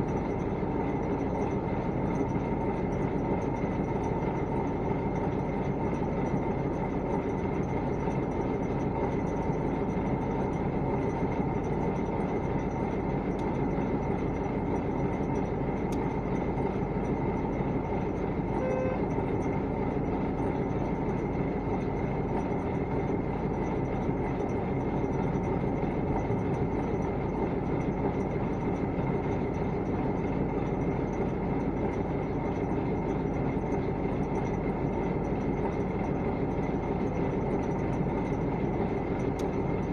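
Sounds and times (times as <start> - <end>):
vehicle running rumble: 0.0 - 39.9.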